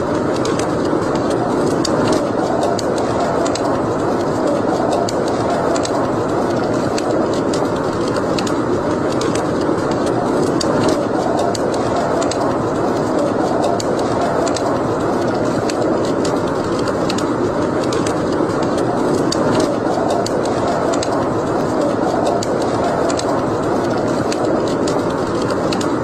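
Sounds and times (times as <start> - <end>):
fire crackling and popping: 0.0 - 26.0
fire rushing noise: 0.0 - 26.0.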